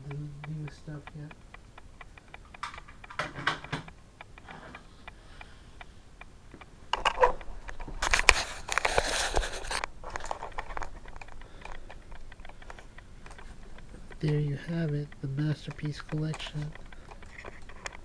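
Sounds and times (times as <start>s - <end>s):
crackling rustling handling noise: 0.0s - 18.0s
scattered clicks: 0.0s - 18.0s.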